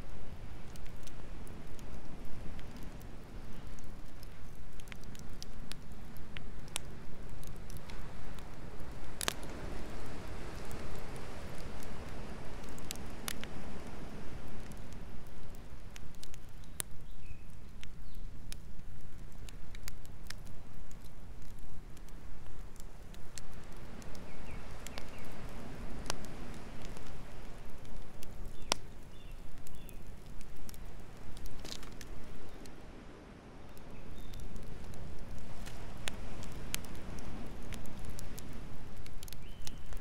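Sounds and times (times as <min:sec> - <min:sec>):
campfire crackles and pops: 0:00.0 - 0:40.0.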